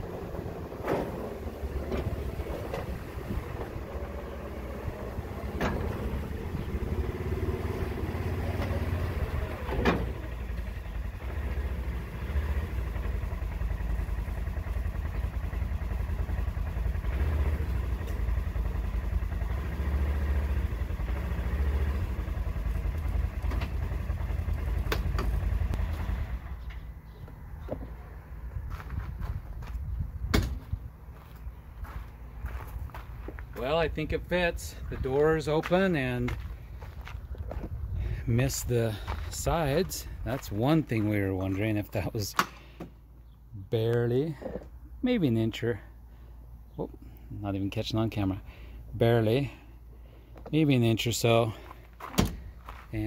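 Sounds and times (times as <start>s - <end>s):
vehicle engine running at low speed: 0.0s - 53.0s.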